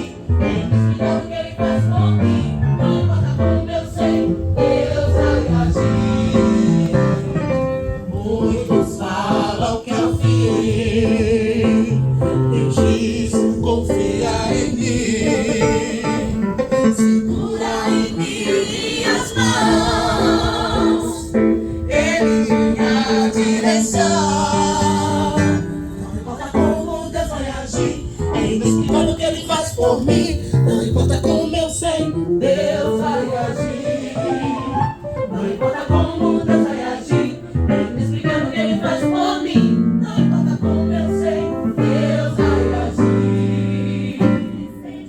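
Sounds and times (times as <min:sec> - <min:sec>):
gospel choir singing: 0:00.0 - 0:45.0.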